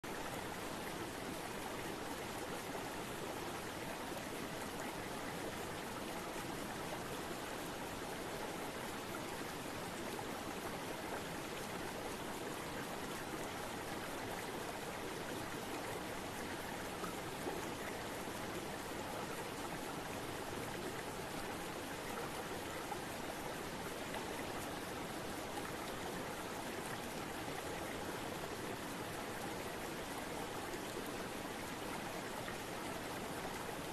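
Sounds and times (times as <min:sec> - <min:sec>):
river water flowing: 0:00.1 - 0:33.9.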